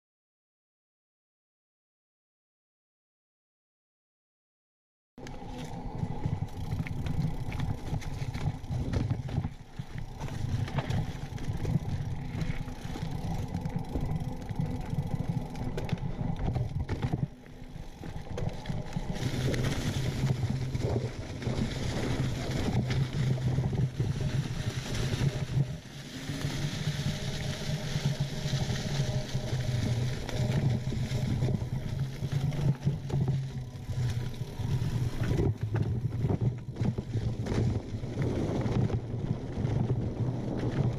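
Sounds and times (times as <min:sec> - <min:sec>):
bike tyres rolling over dirt: 0:05.2 - 0:40.9
wind rumbling on microphone: 0:05.2 - 0:40.9
bike rattling and knocking: 0:05.6 - 0:40.9.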